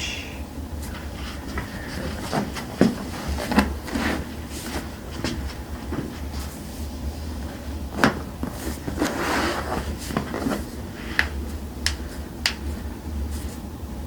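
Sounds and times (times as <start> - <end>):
rustle of movement: 0.7 - 13.7.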